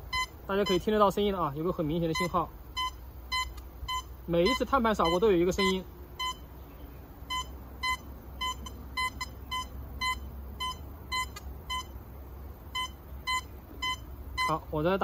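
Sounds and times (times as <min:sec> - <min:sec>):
metal detector beeps: 0:00.0 - 0:01.0, 0:02.0 - 0:06.5, 0:07.3 - 0:12.0, 0:12.7 - 0:14.8.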